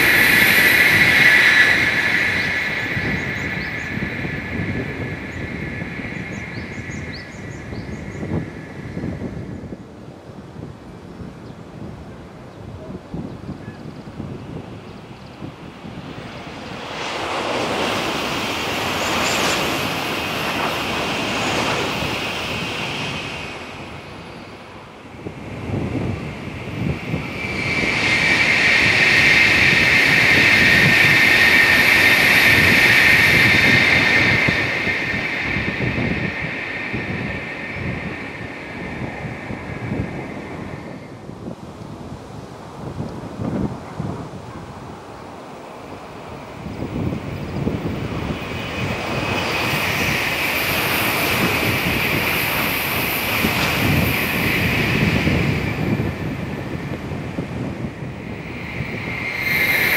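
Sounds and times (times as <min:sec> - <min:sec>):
high-speed train passing: 0:00.0 - 0:11.0, 0:11.7 - 0:59.9.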